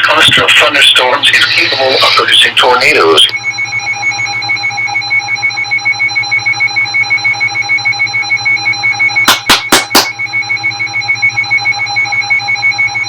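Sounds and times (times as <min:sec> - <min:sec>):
electronic alarm pulsing: 0:00.0 - 0:13.0.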